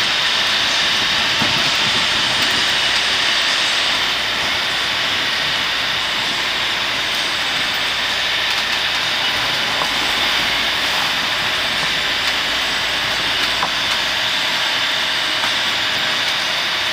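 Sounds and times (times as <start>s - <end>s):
rushing sea: 0.0s - 16.9s
strong wind: 0.0s - 16.9s.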